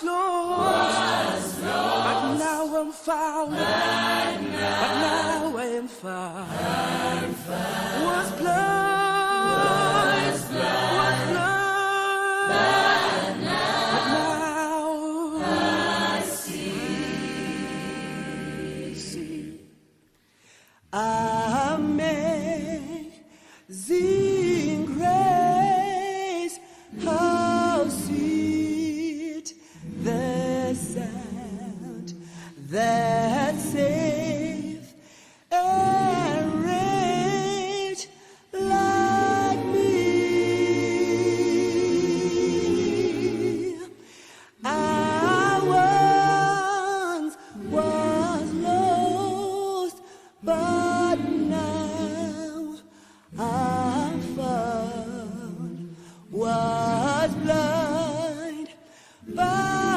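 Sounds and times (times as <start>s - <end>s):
a cappella group singing: 0.0s - 20.1s, 20.8s - 59.9s.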